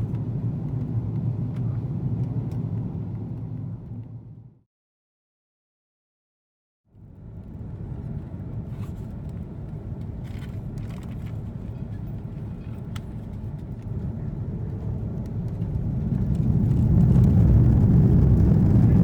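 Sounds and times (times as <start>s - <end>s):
aircraft engine rumble in cabin: 0.0s - 4.6s, 6.9s - 19.0s.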